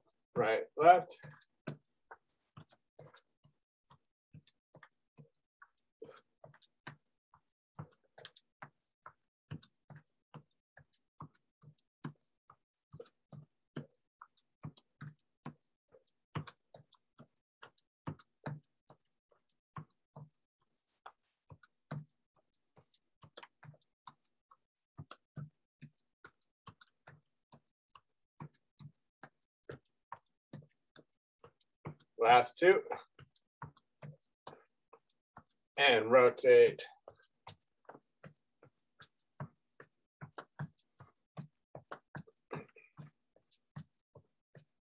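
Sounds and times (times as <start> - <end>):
footsteps marching in place: 0.0 - 44.9.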